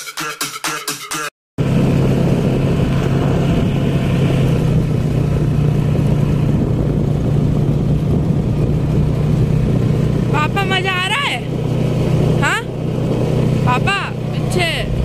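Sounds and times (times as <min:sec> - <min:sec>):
quad bike engine running: 0:01.6 - 0:15.0.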